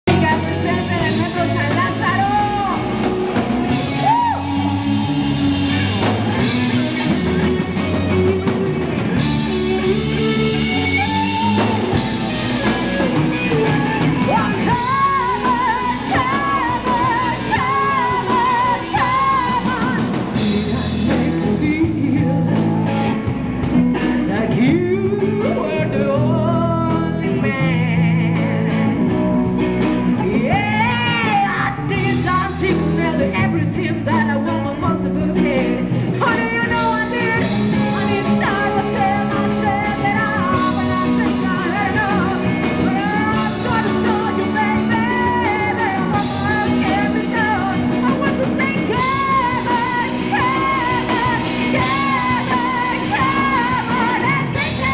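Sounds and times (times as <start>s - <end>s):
drum kit: 0.0s - 54.9s
electric bass: 0.0s - 54.9s
electric guitar: 0.0s - 54.9s
women singing with vibrato: 0.1s - 7.2s, 8.0s - 23.2s, 24.2s - 28.8s, 30.2s - 54.9s.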